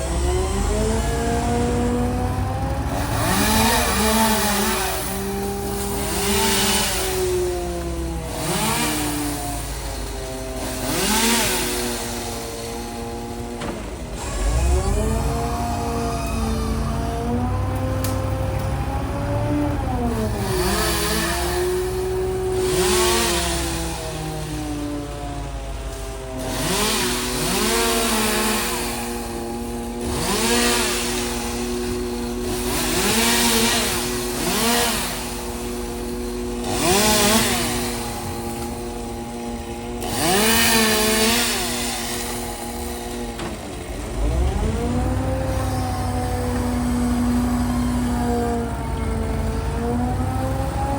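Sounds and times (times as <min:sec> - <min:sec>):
chainsaw revving: 0:00.0 - 0:50.9
engine hum: 0:00.0 - 0:50.9.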